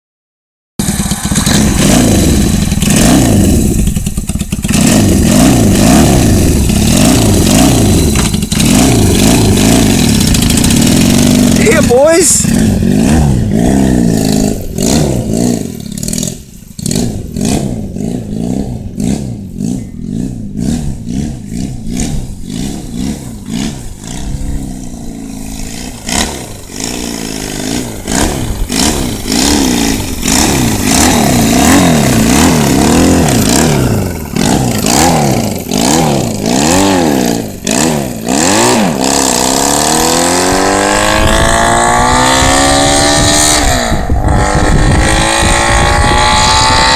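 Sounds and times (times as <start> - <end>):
motorcycle engine revving: 0.8 - 46.9.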